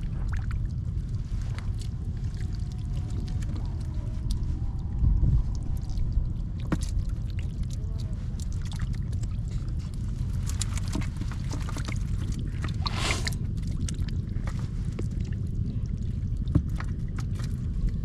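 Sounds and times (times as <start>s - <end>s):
low rumble: 0.0s - 18.0s
water splashing and sloshing: 0.0s - 18.0s.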